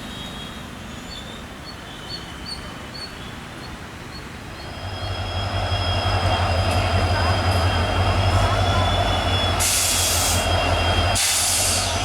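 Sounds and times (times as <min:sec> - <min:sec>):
diesel locomotive engine rumble: 0:02.2 - 0:12.0.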